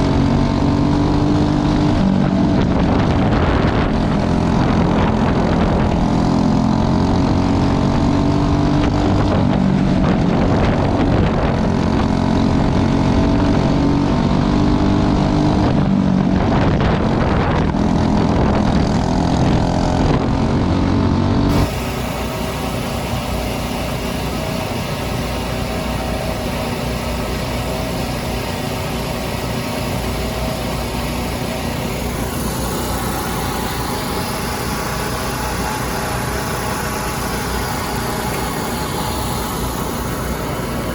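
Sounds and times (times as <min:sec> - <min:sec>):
racing engines: 0:00.0 - 0:40.9
steady engine drone: 0:00.0 - 0:40.9.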